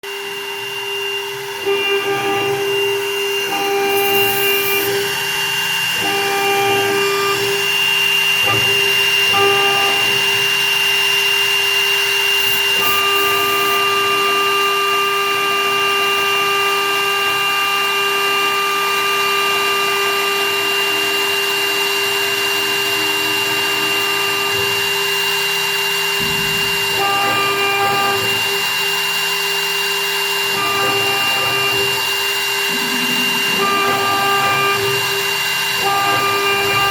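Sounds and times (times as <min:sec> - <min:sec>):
high spindle whine: 0:00.0 - 0:36.9
motor tones: 0:00.0 - 0:36.9.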